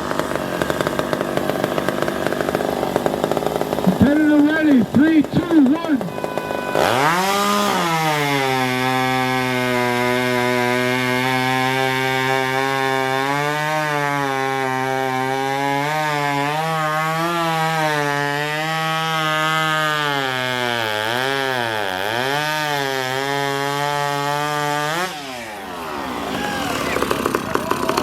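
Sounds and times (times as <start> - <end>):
chainsaw cutting log: 0.0 - 28.0.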